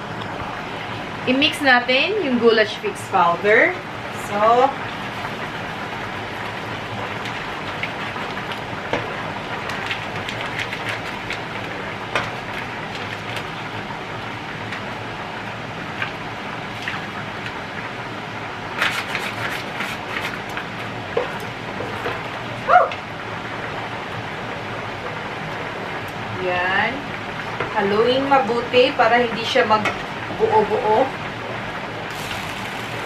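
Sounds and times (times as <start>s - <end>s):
stew simmering with bubbling hiss: 0.0s - 33.0s.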